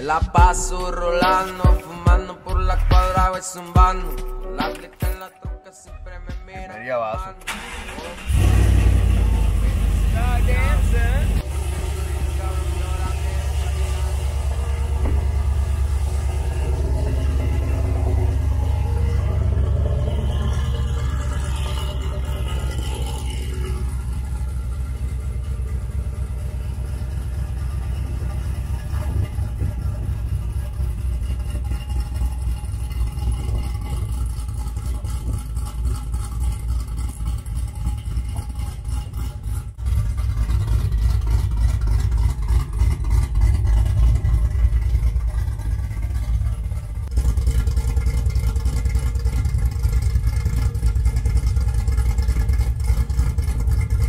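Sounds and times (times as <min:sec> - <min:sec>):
pickup engine idling: 0:00.0 - 0:05.0, 0:07.2 - 0:54.0.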